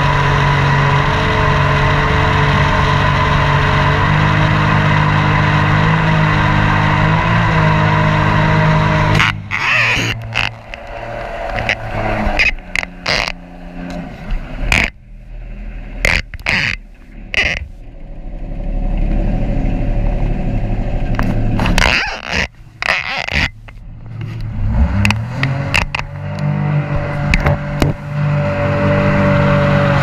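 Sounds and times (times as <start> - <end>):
jet boat engine running: 0.0 - 30.0.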